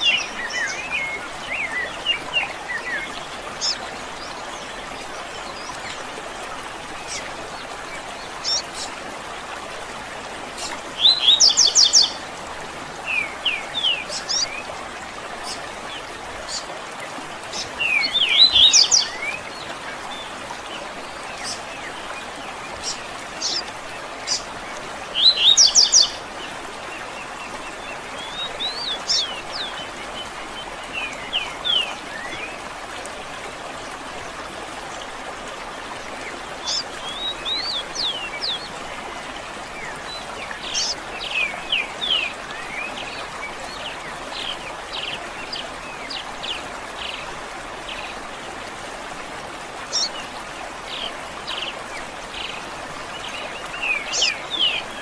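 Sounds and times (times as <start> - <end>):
songbirds chirping: 0.0 - 55.0
stream flowing: 0.0 - 55.0.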